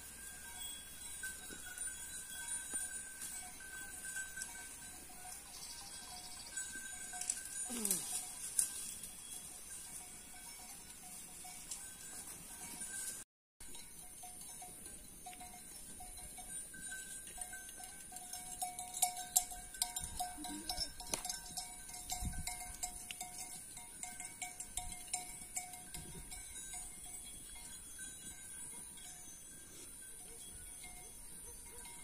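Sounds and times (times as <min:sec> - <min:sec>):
animal bells clinking: 0:00.0 - 0:32.0.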